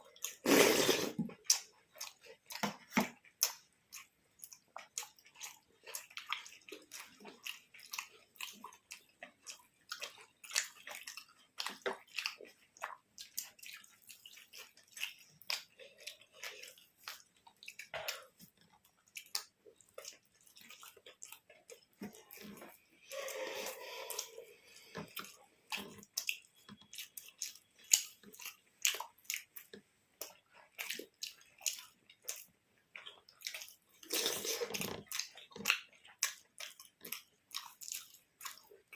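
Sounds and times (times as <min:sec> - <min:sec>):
people chewing food: 0:00.0 - 0:38.9.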